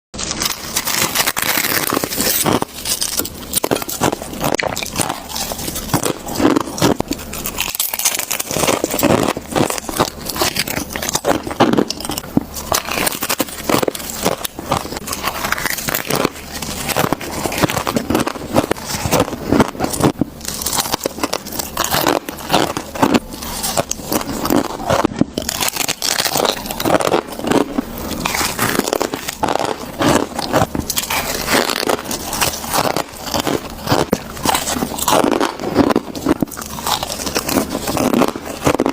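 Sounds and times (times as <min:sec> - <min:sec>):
frost being chewed and crunched: 0:00.2 - 0:38.9.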